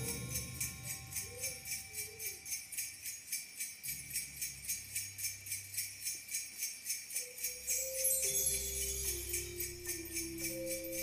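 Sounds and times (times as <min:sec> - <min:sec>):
music with jingling bells: 0:00.0 - 0:11.0.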